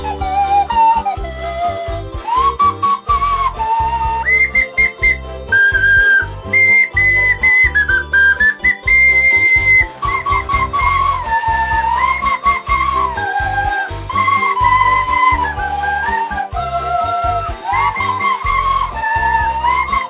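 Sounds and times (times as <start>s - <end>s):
keyboard drum beat and bass: 0.0s - 20.0s
whistle-like vegetable instrument melody: 0.0s - 20.0s.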